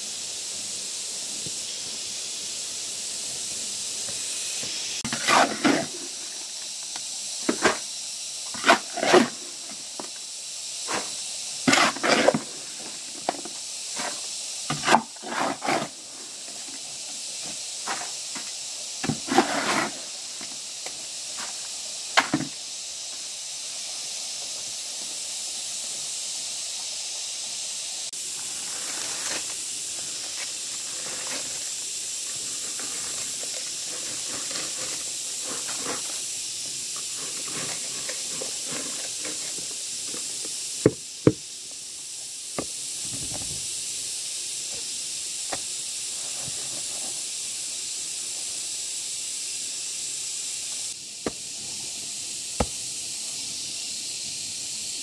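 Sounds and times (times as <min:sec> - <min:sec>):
steady high hiss: 0:00.0 - 0:55.0.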